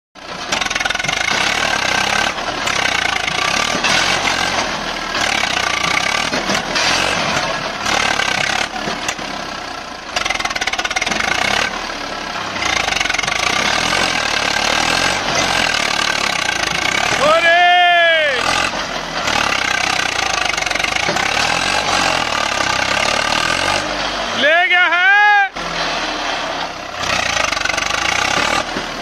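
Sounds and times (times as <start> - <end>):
tractor diesel engine labouring: 0.2 - 29.0.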